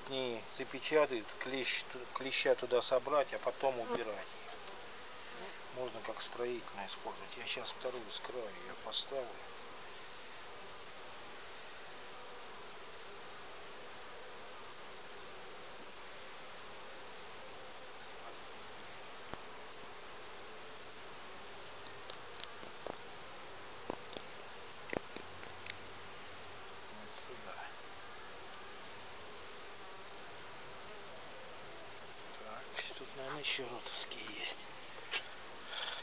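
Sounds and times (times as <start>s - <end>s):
bees buzzing: 0.2s - 36.0s.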